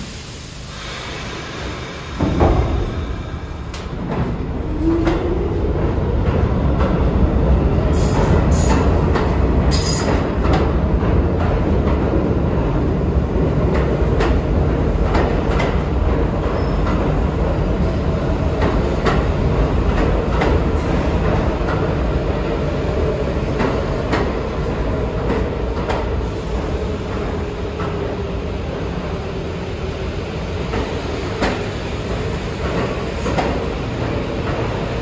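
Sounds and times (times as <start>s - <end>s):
subway train rumbling on rails: 0.0s - 35.0s.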